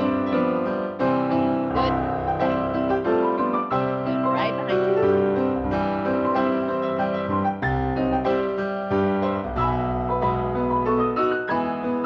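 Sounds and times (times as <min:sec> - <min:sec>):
solo piano chords: 0:00.0 - 0:12.0.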